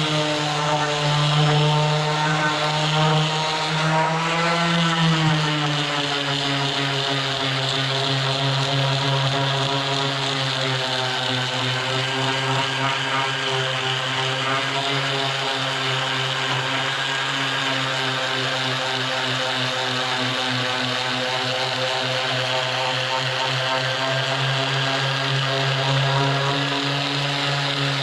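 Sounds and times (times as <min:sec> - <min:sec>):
woodworking machine motor hum: 0:00.0 - 0:28.0.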